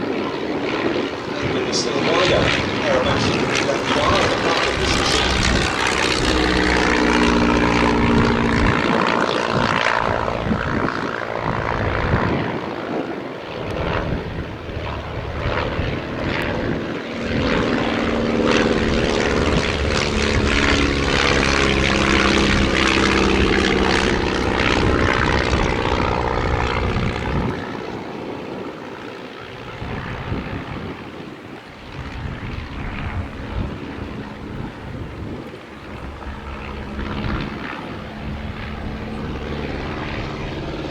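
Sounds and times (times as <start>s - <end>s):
gusty wind rumble: 0.0s - 40.9s
propeller planes droning past: 0.0s - 40.9s.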